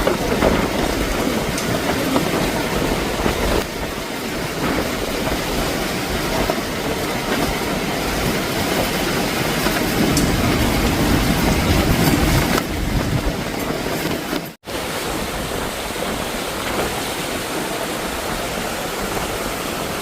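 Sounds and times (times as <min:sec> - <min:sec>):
moving vehicle rumbling: 0:00.0 - 0:20.0.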